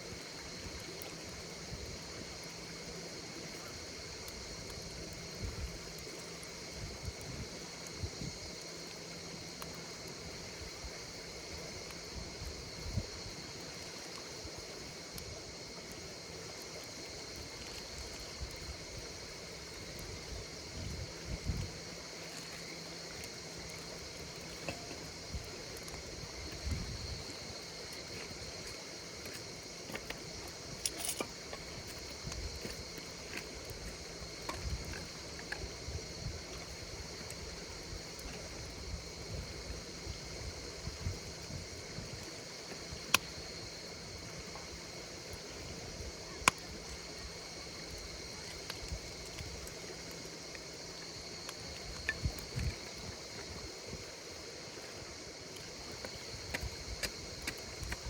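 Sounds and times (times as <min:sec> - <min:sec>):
campfire crackling and popping: 0:00.0 - 0:58.0
insects trilling: 0:00.0 - 0:58.0.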